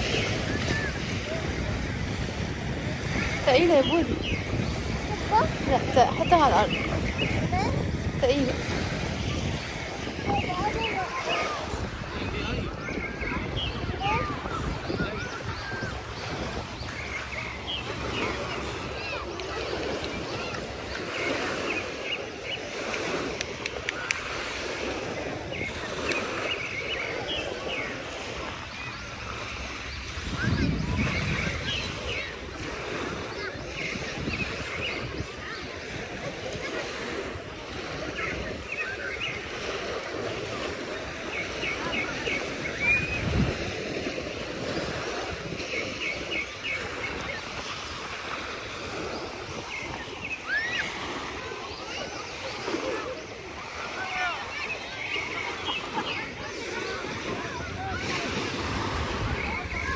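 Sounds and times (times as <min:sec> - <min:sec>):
waves washing: 0:00.0 - 0:59.9
wind gust on microphone: 0:00.0 - 0:59.9.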